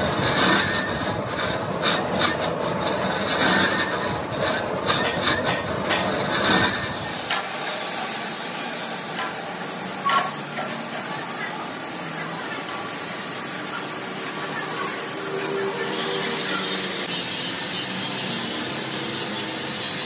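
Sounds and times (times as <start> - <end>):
lathe cutting metal: 0.0 - 20.0.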